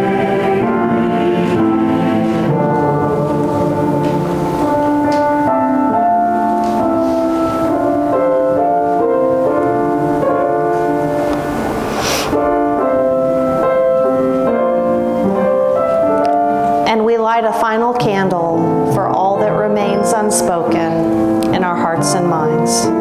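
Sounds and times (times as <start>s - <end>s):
slow quiet piano music: 0.0s - 23.0s.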